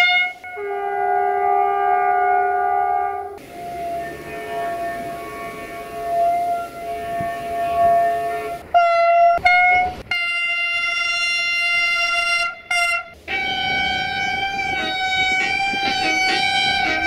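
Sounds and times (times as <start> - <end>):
train horn blasts: 0.0 - 17.0.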